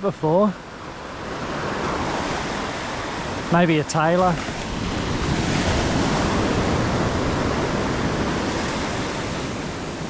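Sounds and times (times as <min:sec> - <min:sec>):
waves breaking on a sandy beach: 0:00.0 - 0:10.0.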